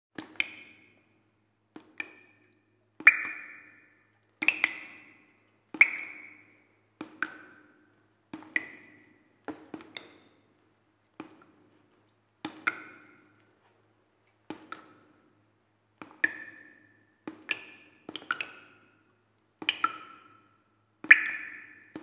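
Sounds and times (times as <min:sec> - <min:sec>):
water drops falling into pool: 0:00.2 - 0:13.6, 0:14.3 - 0:15.3, 0:16.0 - 0:22.0.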